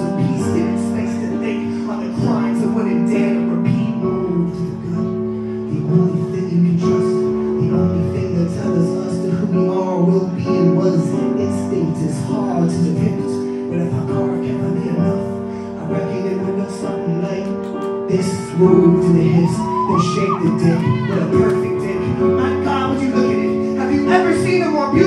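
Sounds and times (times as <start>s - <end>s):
sustained keyboard chords: 0.0s - 25.0s.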